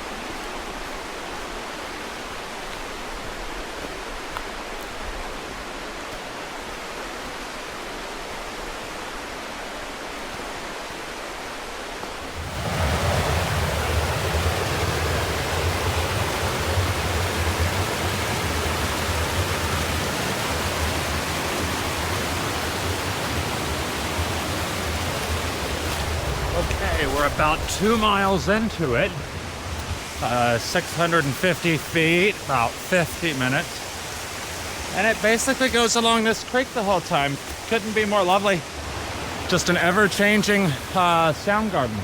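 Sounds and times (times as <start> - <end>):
creek rushing over rocks: 0.0 - 42.0.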